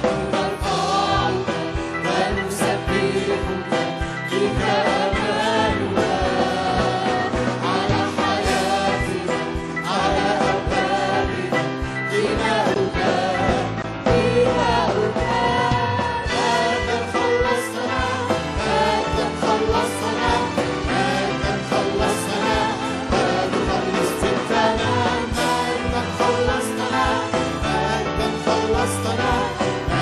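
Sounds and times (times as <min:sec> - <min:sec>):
congregation singing along: 0:00.0 - 0:30.0
singers with band: 0:00.0 - 0:30.0
steady drum beat: 0:00.0 - 0:30.0.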